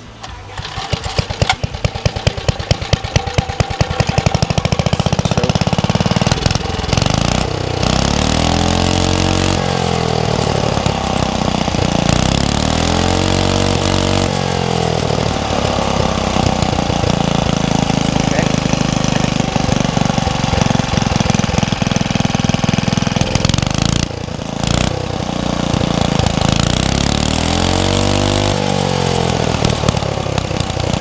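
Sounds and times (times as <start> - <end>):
small engine starting and revving: 0.0 - 31.0.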